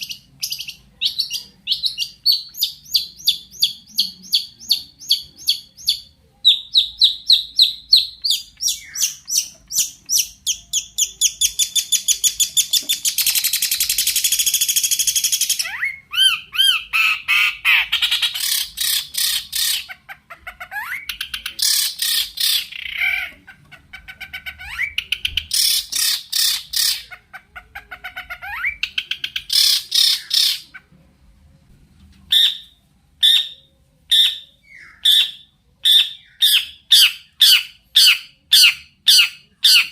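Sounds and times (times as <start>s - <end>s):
bird singing varied song: 0.0s - 27.2s, 28.0s - 30.9s, 32.3s - 39.9s.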